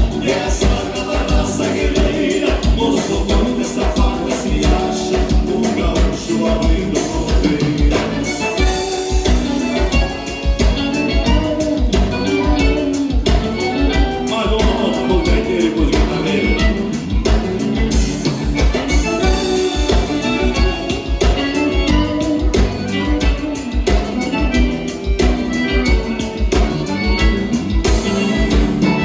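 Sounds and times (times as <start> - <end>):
accordion-led dance band: 0.0 - 29.0.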